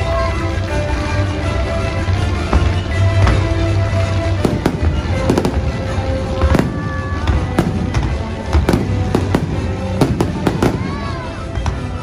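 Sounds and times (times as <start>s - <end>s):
loud soundtrack music: 0.0s - 12.0s
fireworks bangs and crackles: 1.8s - 12.0s.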